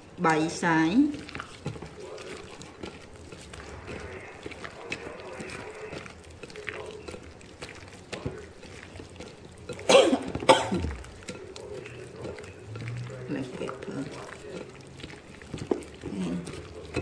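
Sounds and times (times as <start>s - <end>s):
wet squelching and sloshing: 0.0s - 17.0s.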